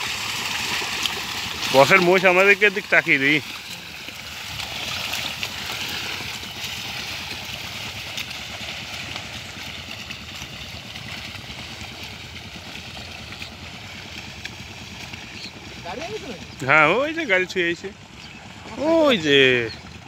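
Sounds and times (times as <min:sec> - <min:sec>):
water and mud sloshing: 0:00.0 - 0:20.0.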